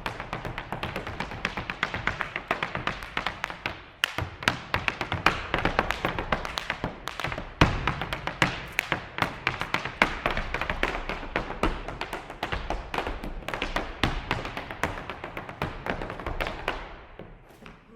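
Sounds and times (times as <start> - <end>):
hard shoes tapping on floor: 0.0 - 17.9.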